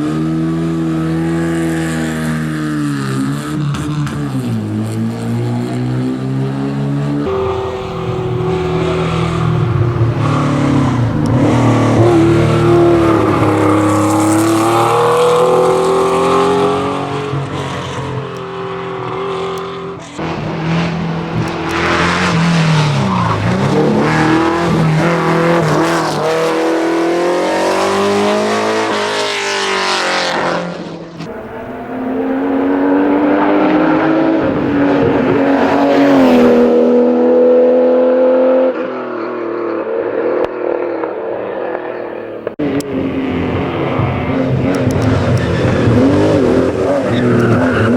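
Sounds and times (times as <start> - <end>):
race car engines revving: 0.0 - 47.9.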